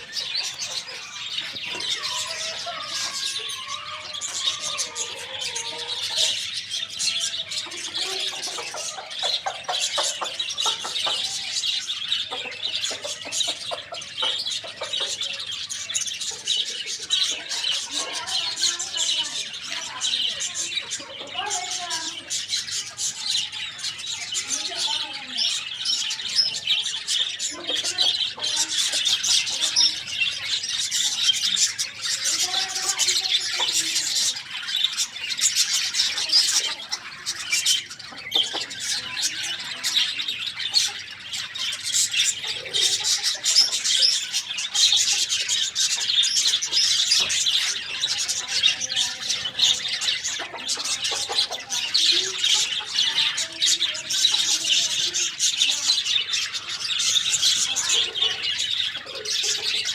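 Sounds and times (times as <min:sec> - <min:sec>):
many birds chirping: 0:00.0 - 0:59.9.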